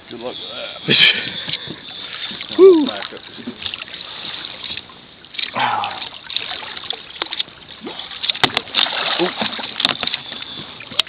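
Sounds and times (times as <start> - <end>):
water splashing against a boat: 0.0 - 11.0.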